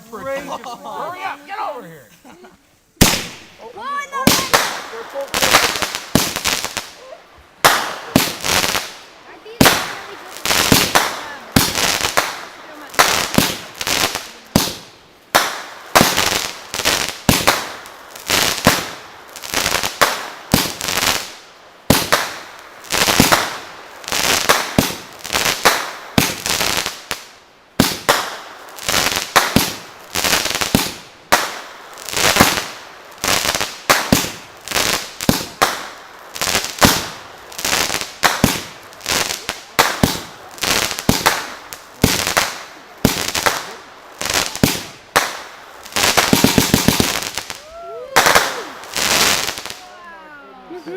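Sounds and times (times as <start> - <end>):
fireworks bangs: 3.0 - 50.0.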